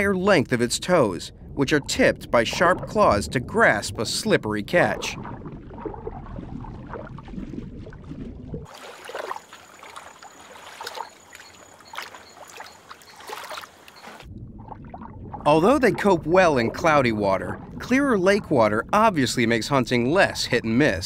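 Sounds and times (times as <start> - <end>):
muffled underwater water noise: 0.0 - 21.0
water lapping: 0.0 - 21.0
water splashes: 0.0 - 21.0.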